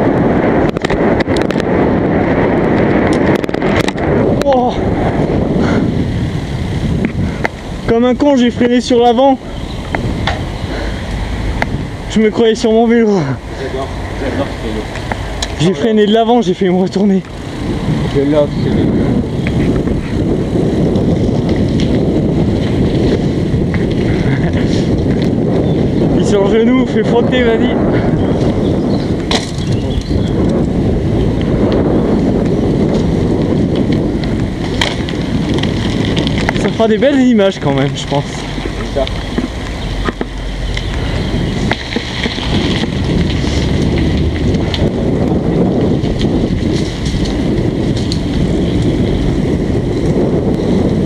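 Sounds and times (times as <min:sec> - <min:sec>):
tyres rolling on asphalt: 0:00.0 - 0:51.0
wind buffeting microphone: 0:00.0 - 0:51.0.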